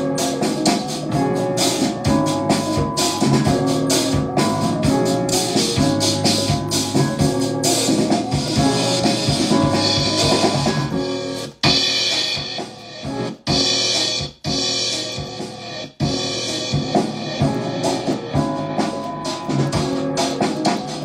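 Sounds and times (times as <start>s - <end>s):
hip-hop beat: 0.0s - 21.0s.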